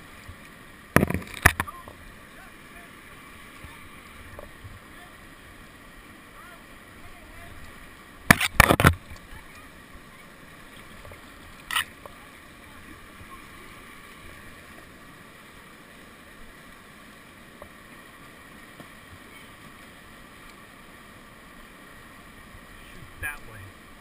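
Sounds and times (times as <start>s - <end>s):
whitewater rushing in river rapid: 0.0s - 24.0s.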